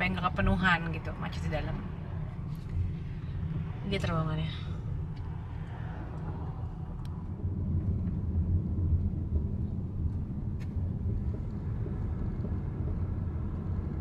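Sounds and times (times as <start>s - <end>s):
car driving rumble: 0.0s - 14.0s.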